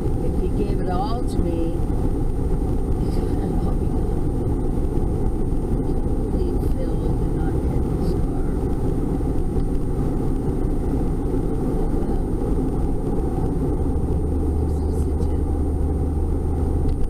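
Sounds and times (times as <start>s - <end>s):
low hum: 0.0s - 17.0s
tyre and engine rumble: 0.0s - 17.0s.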